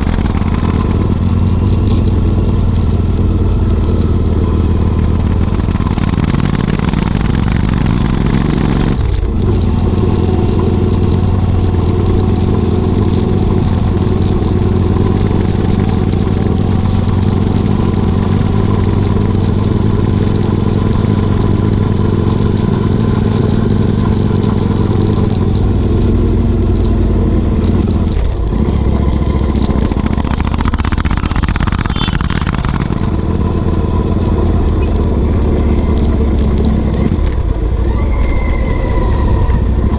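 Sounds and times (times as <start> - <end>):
motorcycle engine deep rumble: 0.0 - 39.9.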